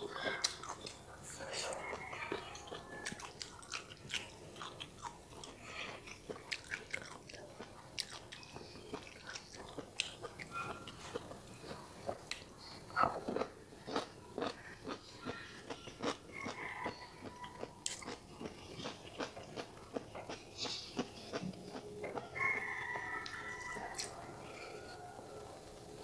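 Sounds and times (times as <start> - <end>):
person chewing: 0.0 - 24.2.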